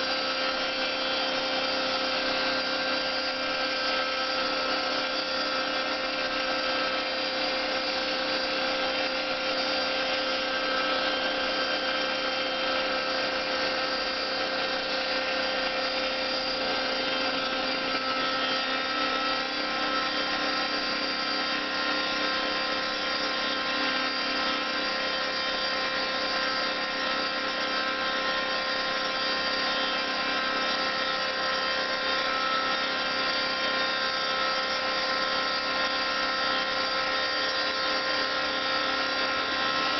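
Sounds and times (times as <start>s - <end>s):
cnc mill machine whine: 0.0s - 39.9s.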